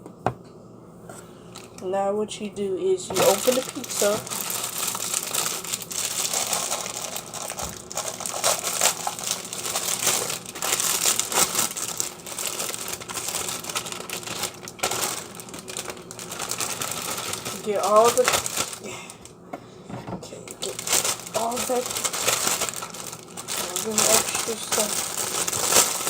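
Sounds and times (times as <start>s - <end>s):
plastic wrapper crinkling: 1.5s - 1.9s, 3.1s - 19.3s, 20.5s - 26.0s.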